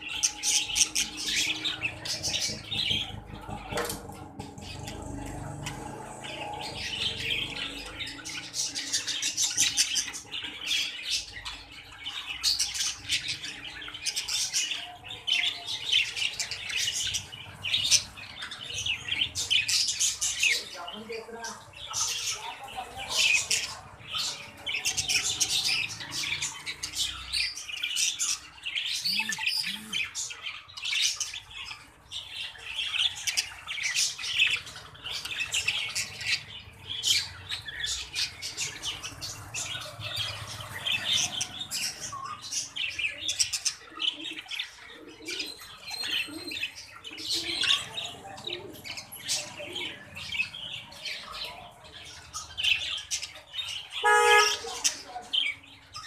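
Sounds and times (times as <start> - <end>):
budgerigars chattering: 0.0 - 14.8, 15.4 - 56.0.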